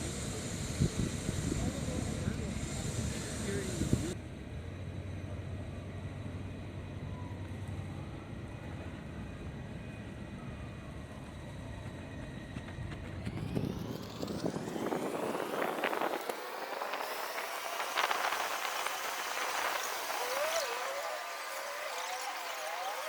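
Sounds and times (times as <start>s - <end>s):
electric train humming: 0.0s - 23.0s
electric train motor whine: 0.0s - 23.0s.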